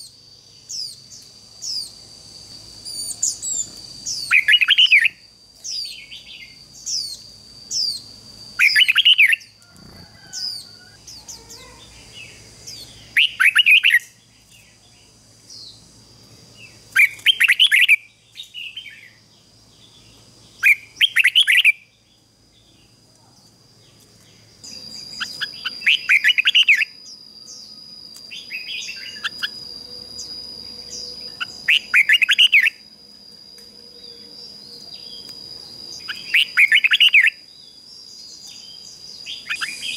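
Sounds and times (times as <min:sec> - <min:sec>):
bird chirping song: 0:00.0 - 0:39.9
high-pitched whine: 0:00.0 - 0:39.9.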